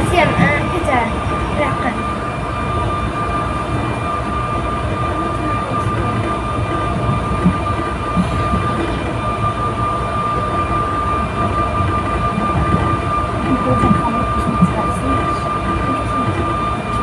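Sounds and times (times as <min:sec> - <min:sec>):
constant high whine: 0:00.0 - 0:17.0
train wheels rumbling on track: 0:00.0 - 0:17.0.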